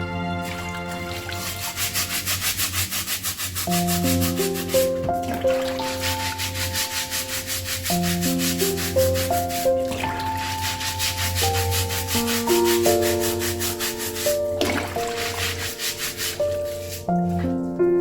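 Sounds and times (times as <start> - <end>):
calm instrumental music: 0.0 - 18.0
brush scrubbing a shoe: 0.4 - 17.6.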